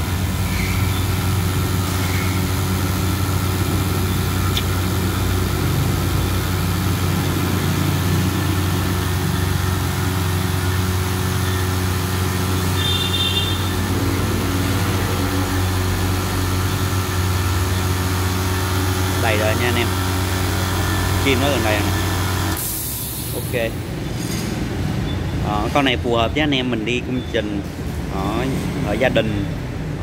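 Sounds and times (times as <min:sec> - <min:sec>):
air compressor running: 0:00.0 - 0:24.9.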